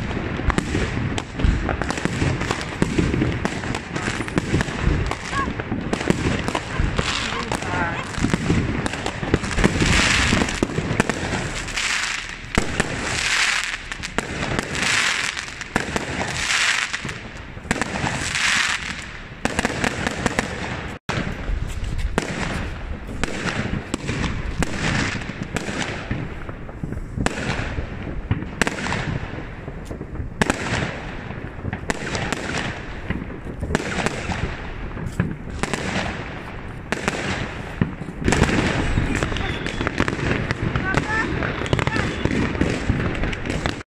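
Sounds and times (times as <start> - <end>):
crackling firework star bursts: 0.0 - 43.8.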